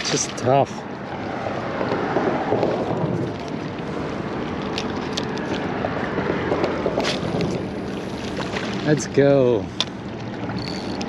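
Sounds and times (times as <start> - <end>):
moving water: 0.0 - 11.0
wind: 0.0 - 11.0.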